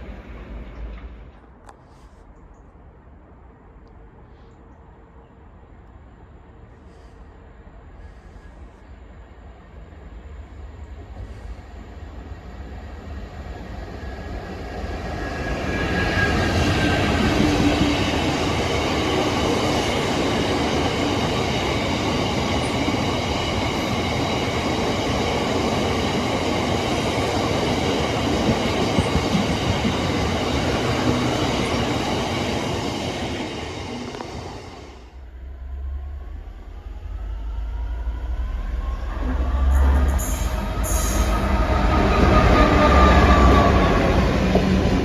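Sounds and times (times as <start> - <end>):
freight train rumble and rail clatter: 0.0 - 45.0.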